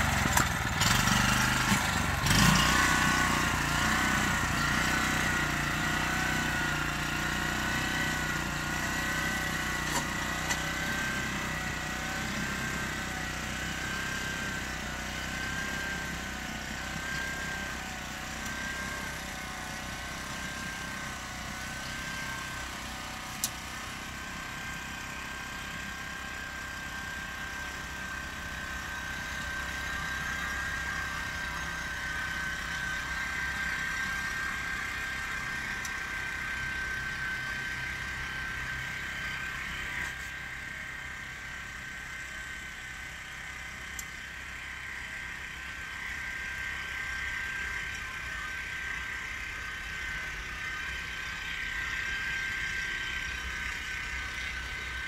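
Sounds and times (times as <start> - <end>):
farm machine whining and humming: 0.0 - 55.0.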